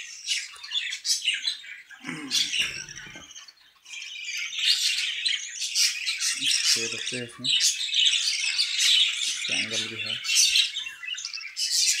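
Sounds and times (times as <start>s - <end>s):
budgerigars chattering and chirping: 0.0s - 12.0s.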